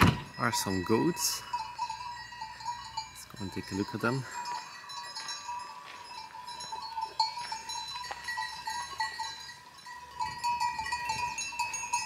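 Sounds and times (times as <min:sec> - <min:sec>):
animal bells clinking: 0:00.0 - 0:12.0.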